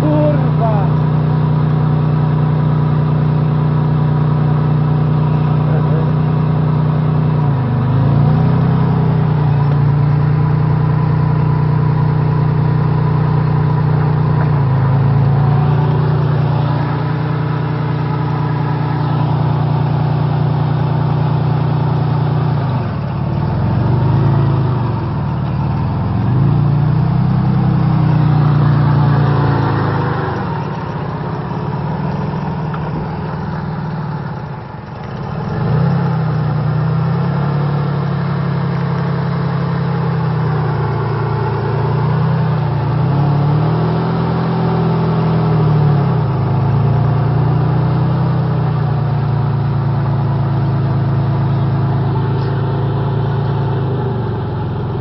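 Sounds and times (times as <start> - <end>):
engine revving high: 0.0 - 55.0.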